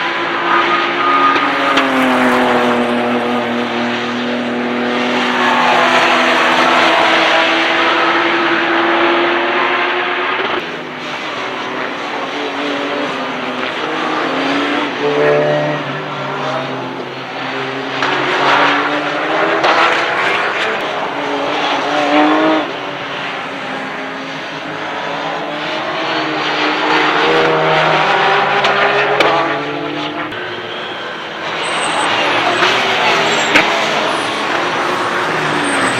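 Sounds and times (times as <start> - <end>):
race car engines passing: 0.0 - 35.9.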